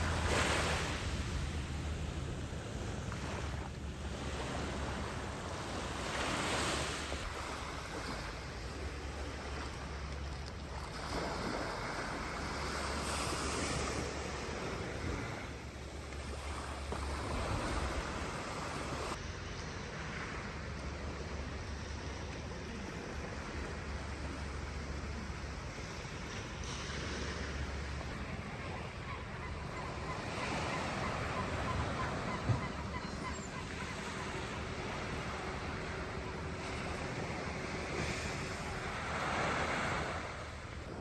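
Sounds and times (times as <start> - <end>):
sea waves washing onto shore: 0.0 - 19.2, 19.9 - 41.0.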